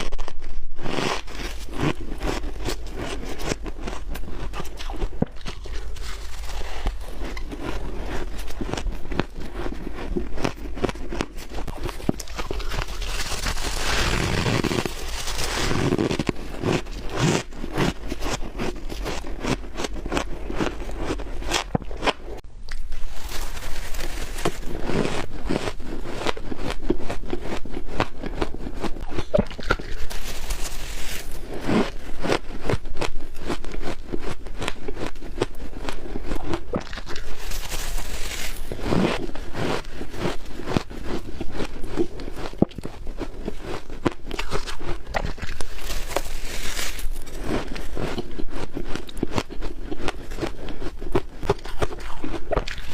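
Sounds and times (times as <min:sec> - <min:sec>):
crunching ice while chewing: 0:00.0 - 0:52.9.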